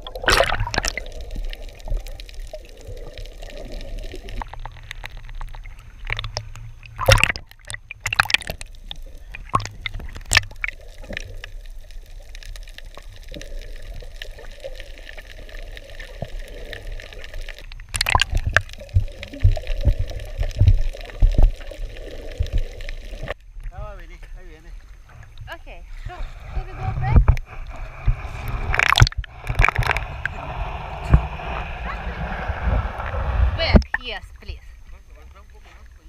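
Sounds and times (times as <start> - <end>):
water sloshing and gurgling: 0.0 - 36.0
water splashes: 0.0 - 36.0.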